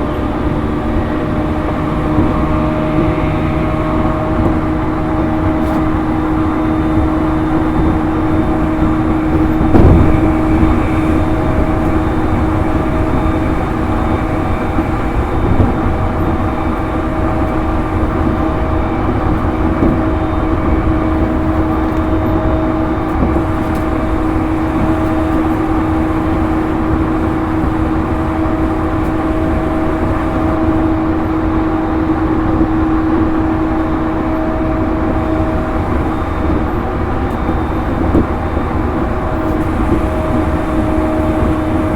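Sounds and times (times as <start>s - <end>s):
train traction motor whine: 0.0s - 41.9s
wheels rumbling on rail: 0.0s - 41.9s.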